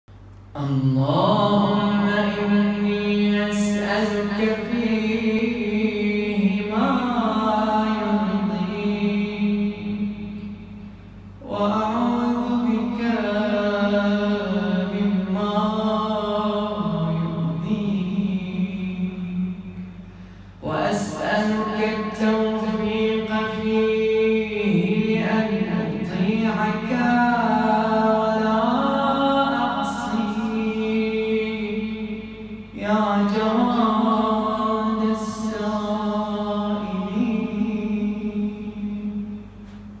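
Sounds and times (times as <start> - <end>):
man chanting melodically: 0.6 - 10.8, 11.4 - 20.0, 20.6 - 39.6.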